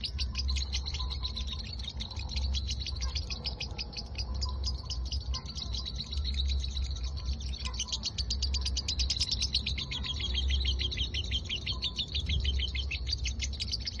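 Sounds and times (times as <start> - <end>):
lovebird chattering trill: 0.0 - 14.0.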